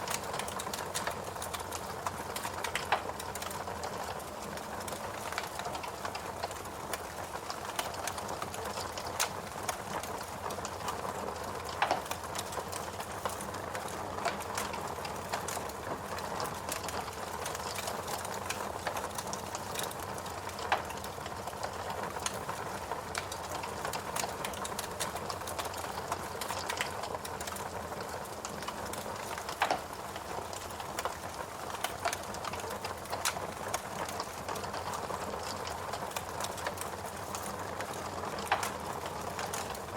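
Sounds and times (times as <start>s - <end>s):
fire popping: 0.0s - 39.9s
fireplace crackling: 0.0s - 39.9s.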